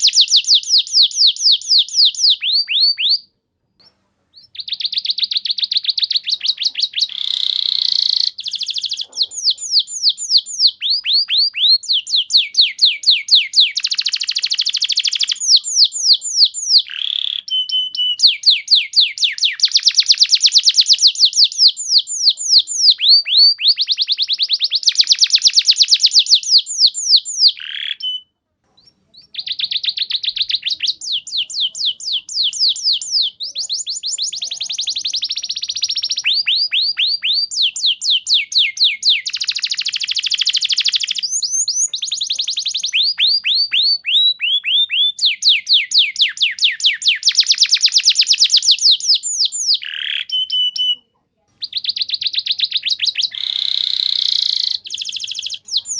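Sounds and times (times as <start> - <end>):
canary singing fast trills: 0.0 - 3.3, 4.3 - 55.9.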